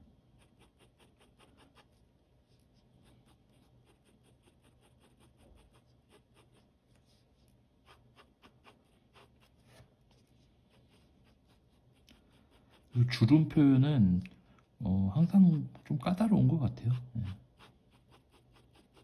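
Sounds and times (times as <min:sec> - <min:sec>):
ballpoint pen scratching on paper: 0:00.4 - 0:07.2, 0:07.8 - 0:13.8, 0:15.2 - 0:19.0.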